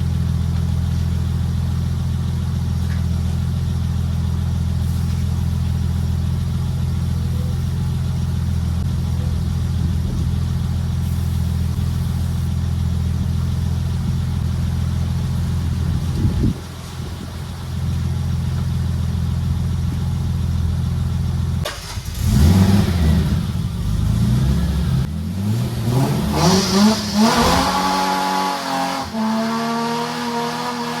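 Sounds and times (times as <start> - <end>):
car engine running steadily: 0.0 - 31.0.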